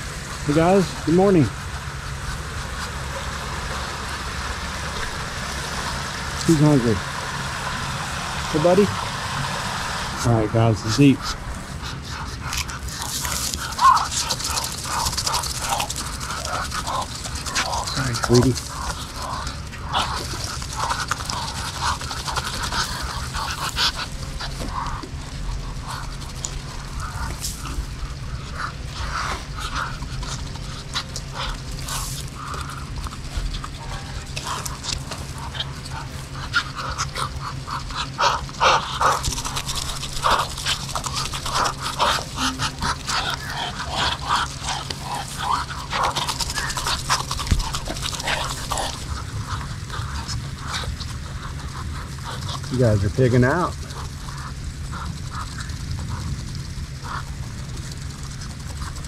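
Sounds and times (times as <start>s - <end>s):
ducks' bills clicking and snapping: 0.0s - 59.0s
low background noise: 0.0s - 59.0s.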